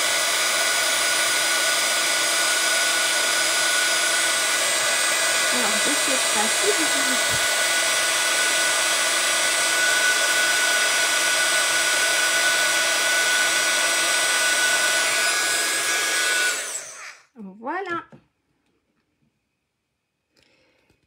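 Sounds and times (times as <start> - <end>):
heat gun blowing with motor whine: 0.0 - 17.3.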